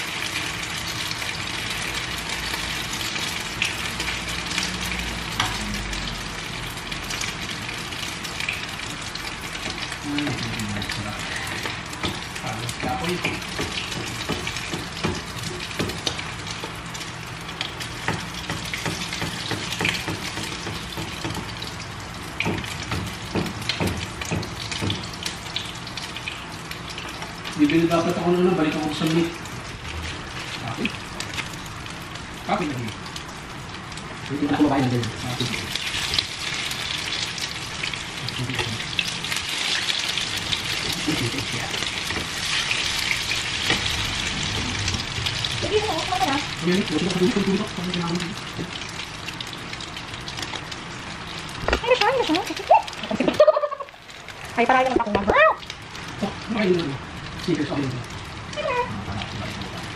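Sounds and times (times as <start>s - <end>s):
omelette sizzling in a frying pan: 0.0s - 59.9s.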